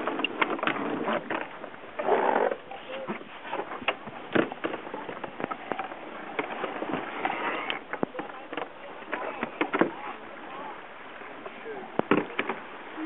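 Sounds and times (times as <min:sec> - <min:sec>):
wind and water rushing: 0:00.0 - 0:13.0.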